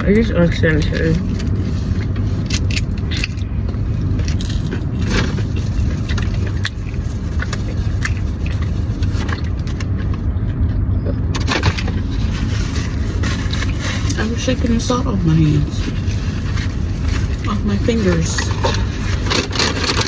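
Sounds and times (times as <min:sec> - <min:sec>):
car cabin rumble: 0:00.0 - 0:20.0
food packaging crinkling: 0:00.7 - 0:10.0, 0:11.4 - 0:20.0.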